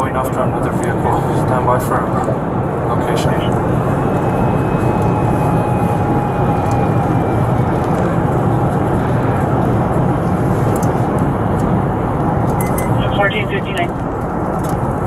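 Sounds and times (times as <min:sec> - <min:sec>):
car interior road noise: 0:00.0 - 0:15.0.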